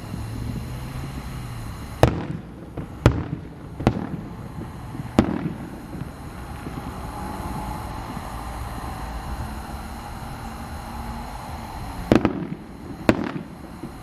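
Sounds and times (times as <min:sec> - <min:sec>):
firework shells bursting: 0:00.0 - 0:14.0
low background rumble: 0:00.0 - 0:14.0.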